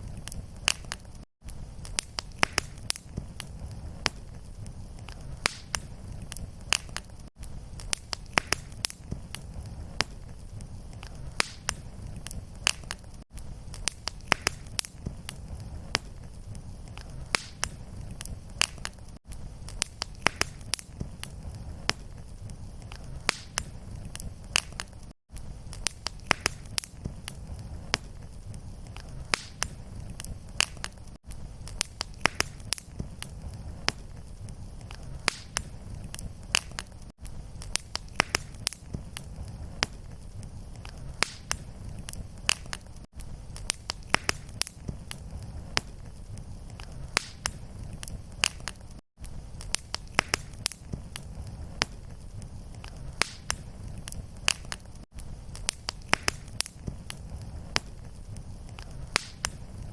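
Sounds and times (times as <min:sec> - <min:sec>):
fireplace fire crackling: 0:00.0 - 0:59.9
sharp pops and snaps of fire: 0:00.0 - 0:59.9.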